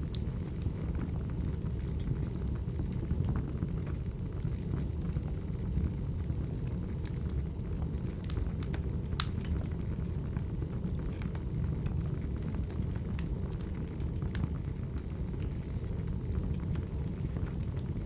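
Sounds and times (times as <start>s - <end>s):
fire rumbling: 0.0s - 18.0s
wood crackling and popping: 0.0s - 18.0s.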